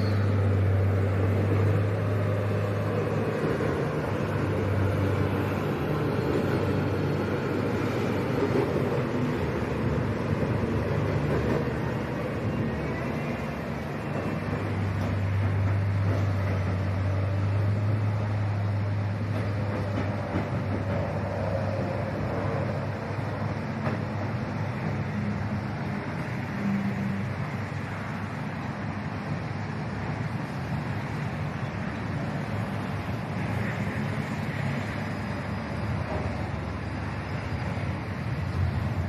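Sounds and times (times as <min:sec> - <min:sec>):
train rumble: 0:00.0 - 0:39.0.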